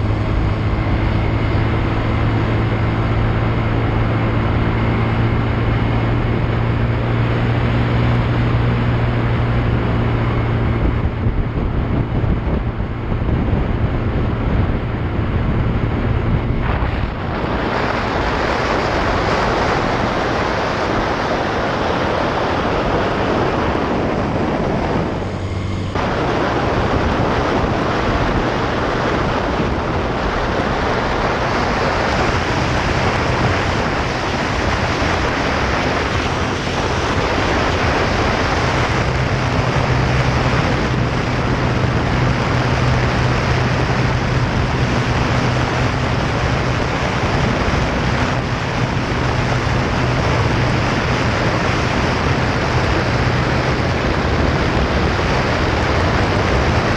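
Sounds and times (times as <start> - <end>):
motorcycle engine drone: 0.0 - 56.9
wind rushing over microphone: 0.0 - 56.9.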